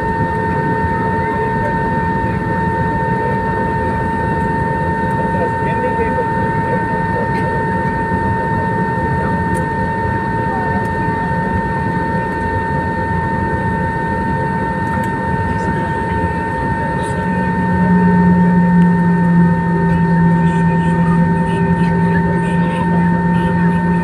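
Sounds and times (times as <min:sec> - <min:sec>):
jet engine rumble: 0:00.0 - 0:24.0
low hum: 0:00.0 - 0:24.0.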